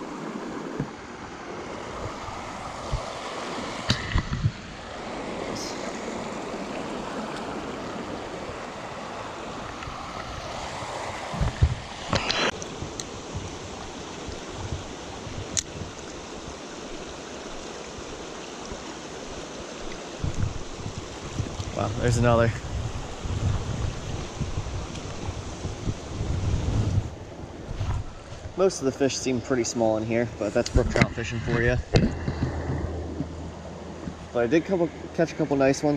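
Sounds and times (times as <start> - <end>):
creek water running: 0.0 - 35.9.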